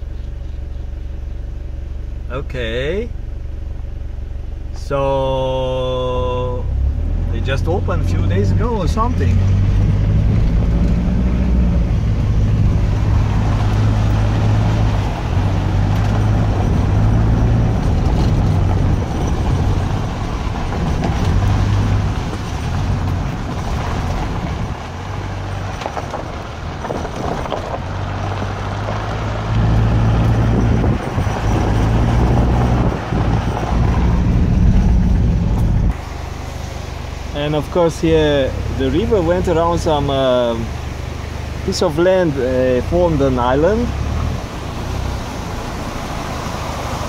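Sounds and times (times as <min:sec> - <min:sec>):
engine drone: 0:00.0 - 0:47.0
tyres rumbling on gravel: 0:00.0 - 0:47.0.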